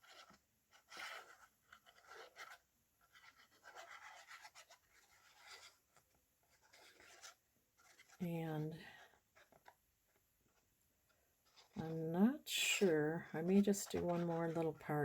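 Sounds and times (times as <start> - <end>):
scratching and rubbing on paper: 0.0 - 15.0.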